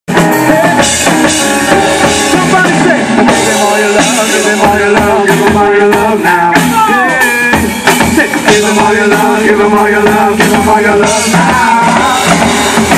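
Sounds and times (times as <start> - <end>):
drum kit: 0.1 - 12.9
keyboard: 0.1 - 12.9
worship band playing through pa: 0.1 - 12.9
people singing: 0.3 - 12.9.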